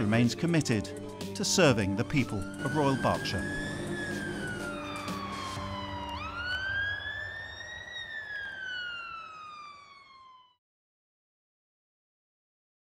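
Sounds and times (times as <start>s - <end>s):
fire engine siren wailing: 0.0s - 10.6s.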